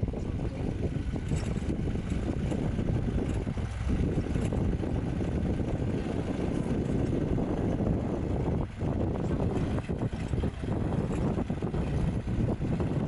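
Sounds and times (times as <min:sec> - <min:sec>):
vehicle engine and road rumble: 0:00.0 - 0:13.0
wind buffeting microphone: 0:00.0 - 0:13.0.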